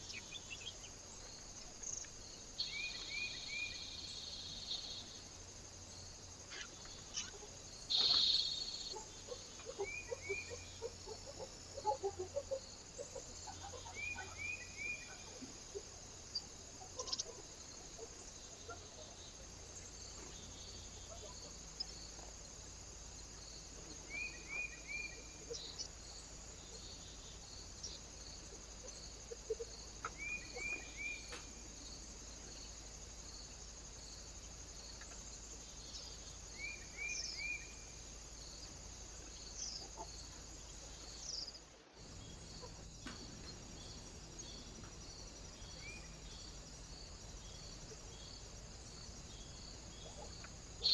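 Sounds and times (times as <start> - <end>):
small bird chirping: 0.0 - 5.3, 6.4 - 22.3, 23.3 - 32.8, 34.8 - 50.9.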